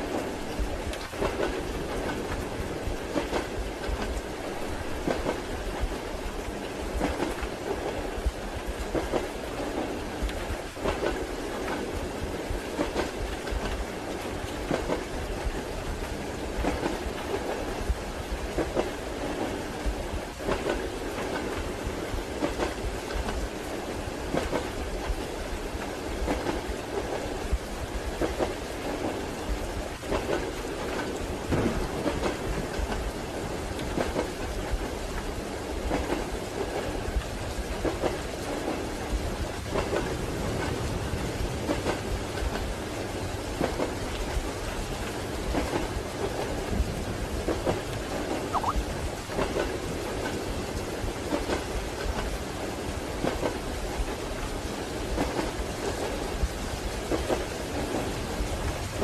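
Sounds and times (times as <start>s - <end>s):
train wheels clattering over rails: 0.0s - 48.5s, 49.1s - 59.0s.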